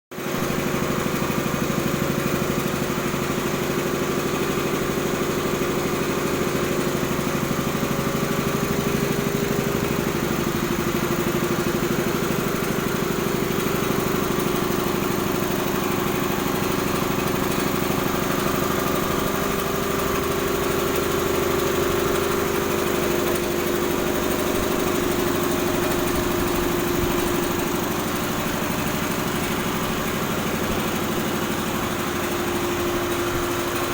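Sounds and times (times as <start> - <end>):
air compressor running: 0.2 - 33.9.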